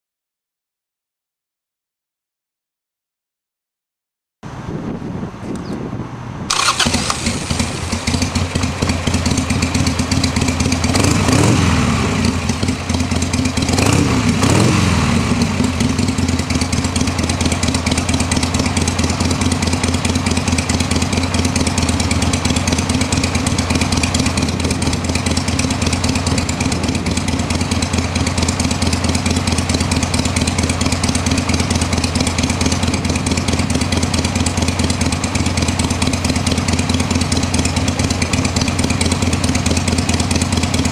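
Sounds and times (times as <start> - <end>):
motorcycle engine revving and idling: 6.5 - 40.9.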